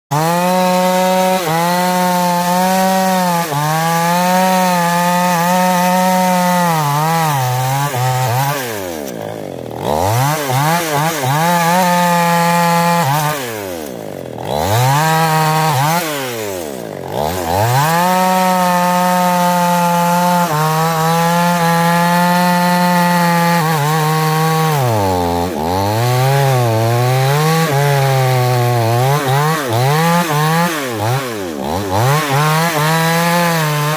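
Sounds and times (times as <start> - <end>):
chainsaw running at high revs: 0.1 - 33.9.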